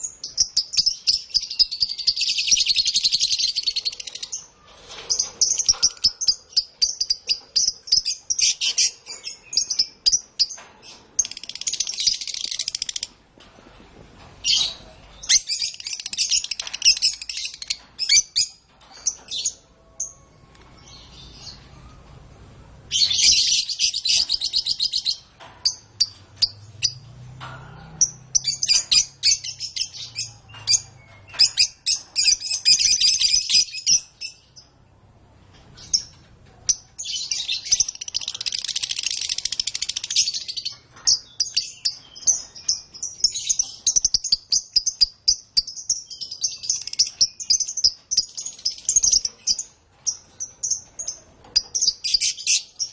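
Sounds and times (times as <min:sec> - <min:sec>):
canary chirps: 0:00.0 - 0:13.2, 0:14.4 - 0:34.9, 0:35.5 - 0:52.9.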